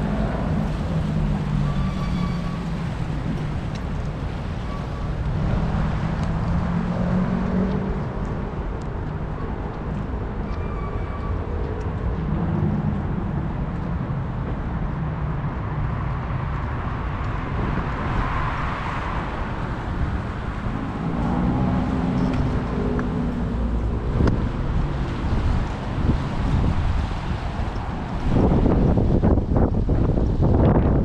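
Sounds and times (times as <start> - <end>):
cars passing: 0.0 - 31.0
traffic wash: 0.0 - 31.0.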